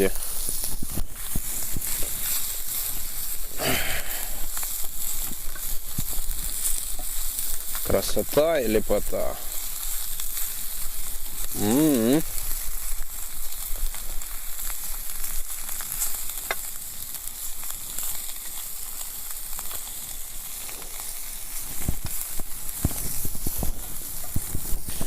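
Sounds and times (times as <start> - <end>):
sausages sizzling in a frying pan: 0.0 - 25.0
sharp pops and crackles: 0.0 - 25.0.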